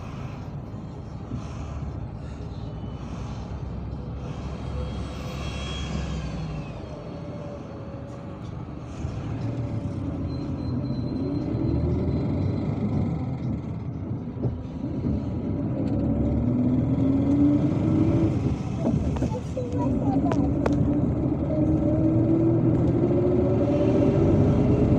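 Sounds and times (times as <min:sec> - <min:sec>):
bus engine and road rumble: 0:00.0 - 0:24.9
rising engine whine: 0:00.0 - 0:24.9.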